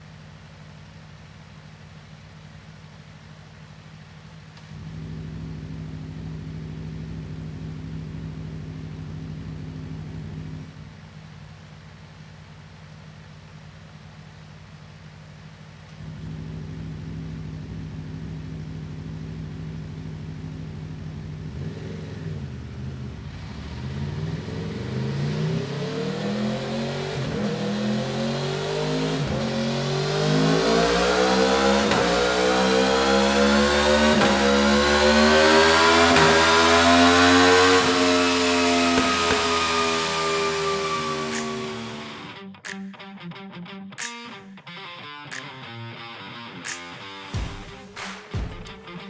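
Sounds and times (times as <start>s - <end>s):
motorcycle engine revving: 0.0s - 42.4s.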